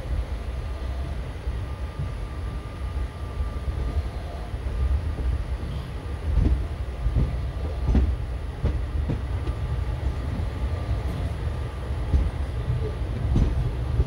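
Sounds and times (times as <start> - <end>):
passenger train rumbling past: 0.0 - 14.0.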